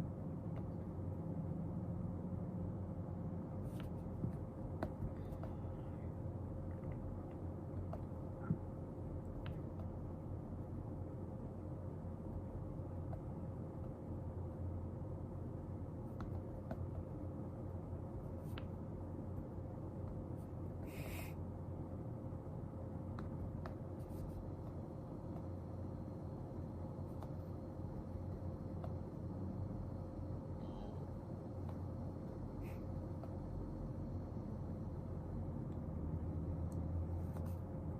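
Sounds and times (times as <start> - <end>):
faint steady tone: 0.0 - 37.9
low room hum: 0.0 - 37.9.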